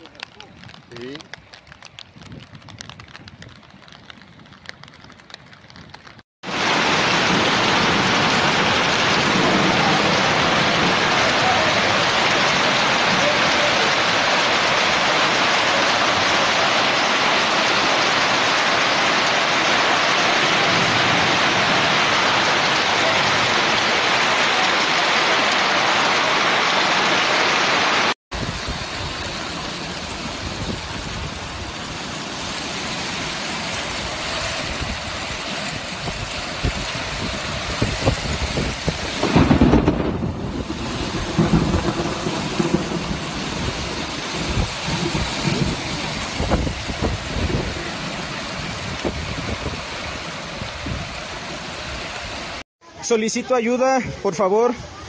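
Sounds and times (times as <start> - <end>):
gusty wind-driven rainstorm: 0.0 - 52.6
heavy rain hissing: 6.4 - 52.6.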